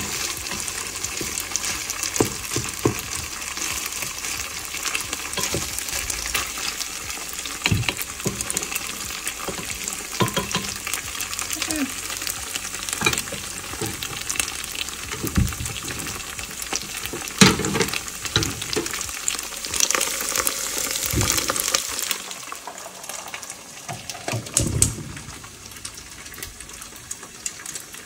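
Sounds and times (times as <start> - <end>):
rice sizzling in oil: 0.0 - 28.0.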